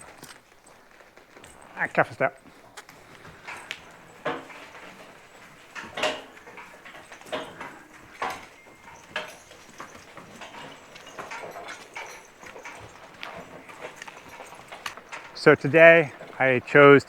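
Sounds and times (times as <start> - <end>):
horse hooves on barn floor: 0.0 - 17.0.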